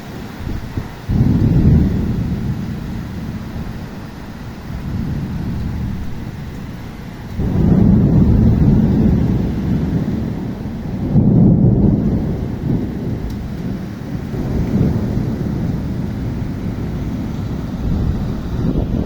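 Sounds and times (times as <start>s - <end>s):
rain hissing: 0.0s - 19.0s
thunder rumbling: 0.0s - 19.0s.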